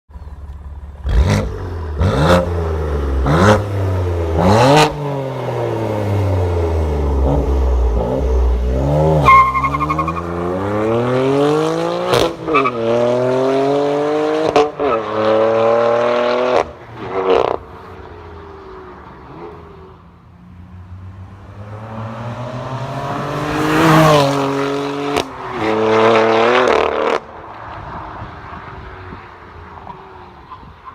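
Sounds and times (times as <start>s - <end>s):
car accelerating: 0.9s - 20.0s, 20.8s - 30.3s.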